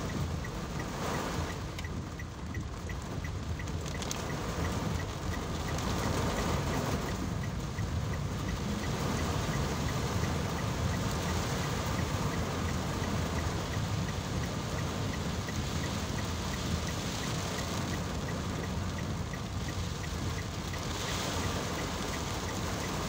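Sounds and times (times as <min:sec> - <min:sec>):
car low rumble: 0:00.0 - 0:23.0
heavy rain on car windscreen: 0:00.0 - 0:23.0.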